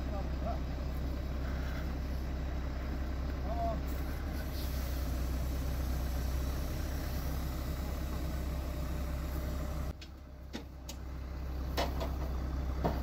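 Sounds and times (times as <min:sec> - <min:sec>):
fire truck engine humming: 0:00.0 - 0:13.0.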